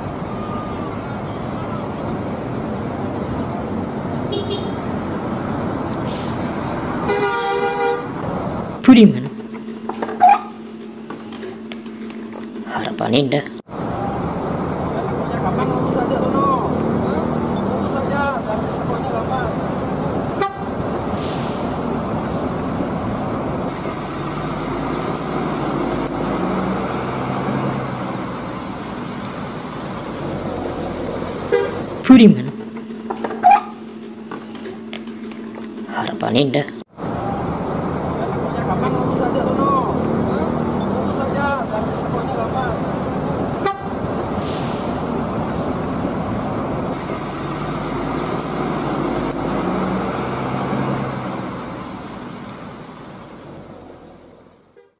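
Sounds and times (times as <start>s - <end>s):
bus engine running: 0.0s - 54.9s
road traffic noise: 0.0s - 54.9s.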